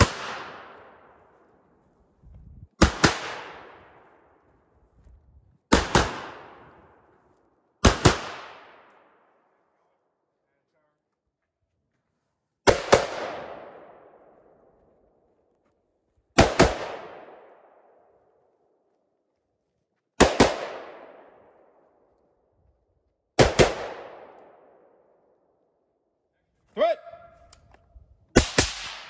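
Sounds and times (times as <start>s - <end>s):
rifle shots with long echo: 0.0s - 2.1s, 2.7s - 10.3s, 12.6s - 15.5s, 16.2s - 19.0s, 20.1s - 26.2s, 27.0s - 29.0s.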